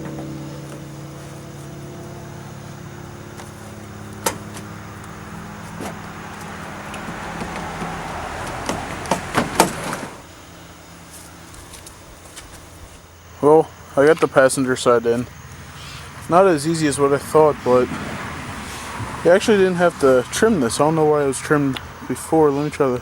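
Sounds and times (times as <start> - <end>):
low vehicle hum: 0.0 - 23.0.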